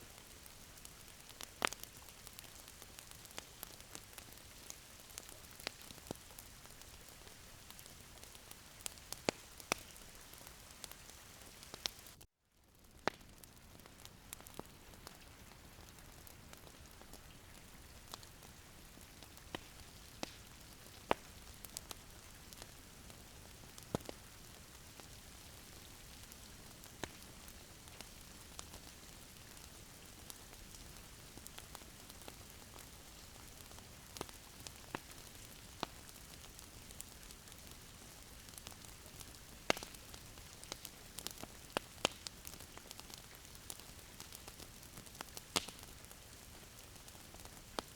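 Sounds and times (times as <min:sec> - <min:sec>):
wood fire crackling and popping: 0:00.0 - 0:12.2, 0:12.8 - 0:47.9
faint steady hiss: 0:00.0 - 0:47.9.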